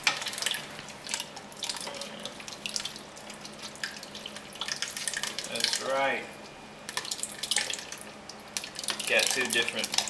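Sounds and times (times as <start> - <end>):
liquid pouring and splashing: 0.0 - 6.2, 6.8 - 10.0.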